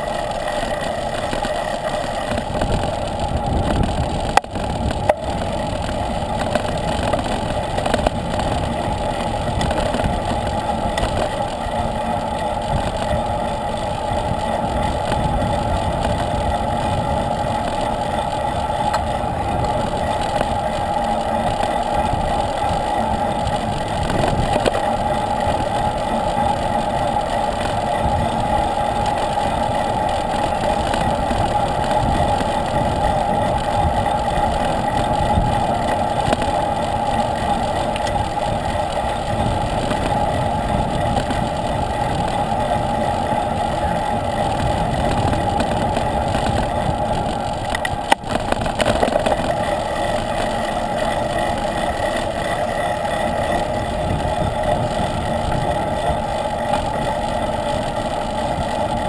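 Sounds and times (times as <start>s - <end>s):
road rumble: 0.0s - 59.0s
wind: 0.0s - 59.0s.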